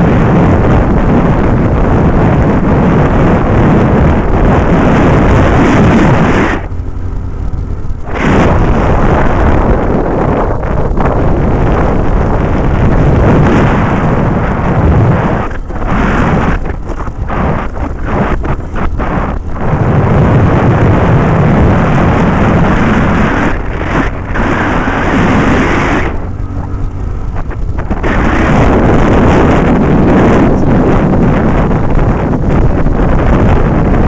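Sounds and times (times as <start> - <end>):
motorcycle engine hum: 0.0 - 34.0
wind buffeting microphone: 0.0 - 34.0.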